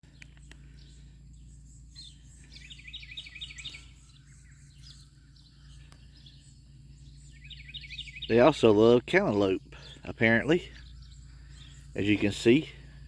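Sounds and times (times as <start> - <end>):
bird chirping: 0.0 - 13.0
low background hum: 0.0 - 13.0.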